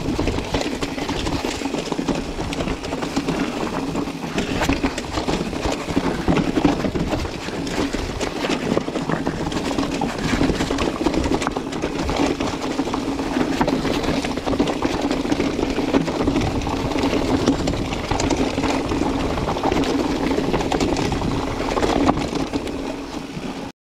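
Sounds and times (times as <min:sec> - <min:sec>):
bike rattling and knocking: 0:00.0 - 0:23.7
bike tyres on rough ground: 0:00.0 - 0:23.7.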